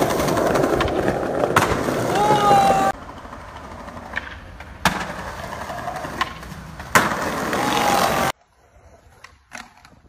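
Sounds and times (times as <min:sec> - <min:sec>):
skateboard clacks: 0:00.0 - 0:08.4
skateboard landing: 0:00.0 - 0:10.0
skateboard popping: 0:00.0 - 0:10.0
wheels rolling over pavement: 0:00.0 - 0:10.0.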